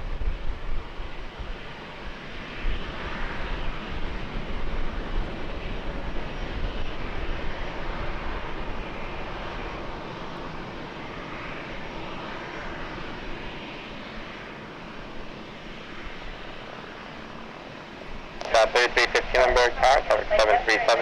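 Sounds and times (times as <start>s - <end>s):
jet engines rushing: 1.7s - 21.0s.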